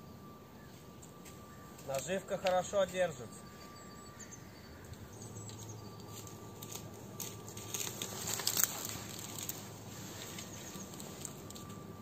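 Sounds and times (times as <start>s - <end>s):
faint steady hum: 0.0s - 12.0s
crackling handling noise: 0.8s - 3.7s, 4.8s - 12.0s.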